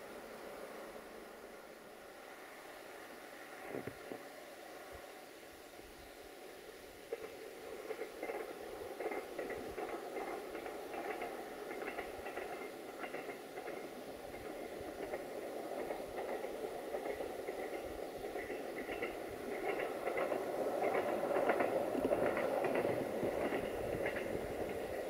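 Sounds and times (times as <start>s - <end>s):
distant diesel train rumbling: 0.0s - 25.0s.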